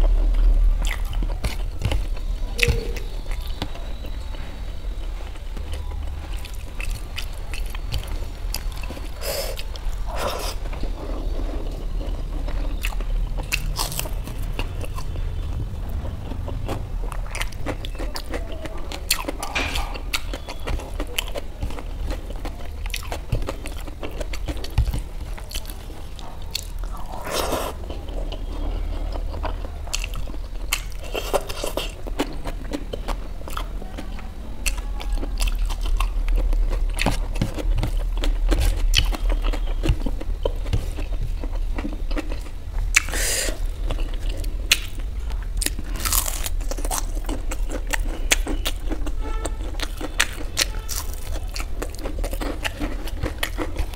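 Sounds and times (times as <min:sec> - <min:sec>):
person chewing and crunching: 0:00.0 - 0:04.4, 0:05.0 - 0:53.9
steady low hum: 0:00.0 - 0:53.9.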